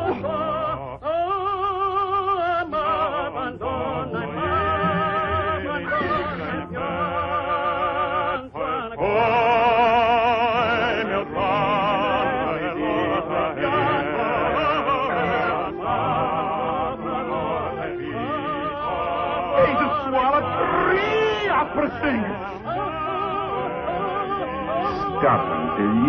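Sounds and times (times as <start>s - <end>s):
accompanying music: 0.0s - 26.0s
man singing opera: 0.0s - 26.0s.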